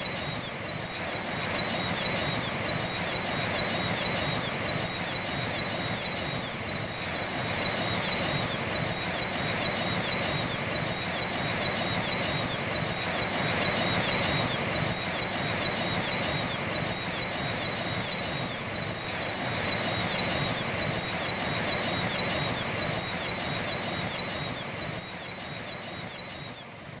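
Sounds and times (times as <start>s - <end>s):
seabirds calling: 0.0s - 26.6s.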